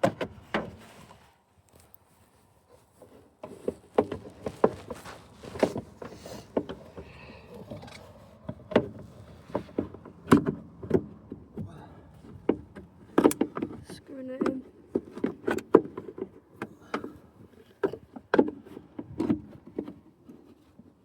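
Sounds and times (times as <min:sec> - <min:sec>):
hand tools and car parts clattering: 0:03.0 - 0:21.0.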